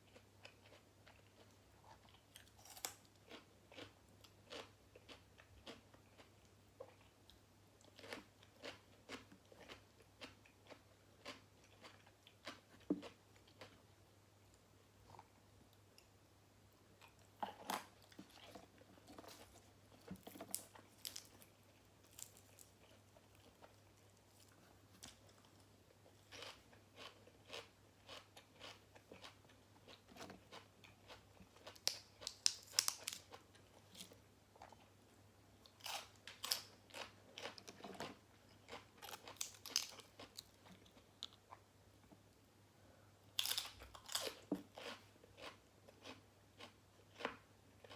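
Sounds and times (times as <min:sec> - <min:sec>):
chewing and crunching food: 0:00.0 - 0:13.8, 0:17.0 - 0:35.0, 0:35.6 - 0:41.6, 0:43.4 - 0:47.9.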